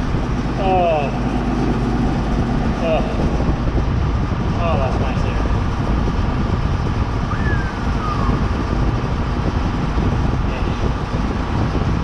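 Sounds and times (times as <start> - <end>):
air conditioning running: 0.0 - 12.0
tractor engine running: 0.0 - 12.0.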